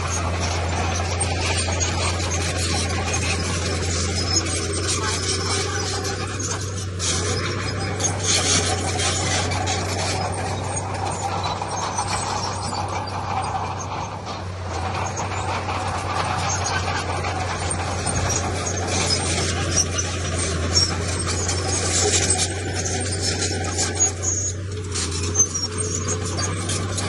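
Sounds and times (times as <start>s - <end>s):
heavy machinery diesel engine: 0.0s - 27.0s
rattling scraping noise: 0.0s - 27.0s.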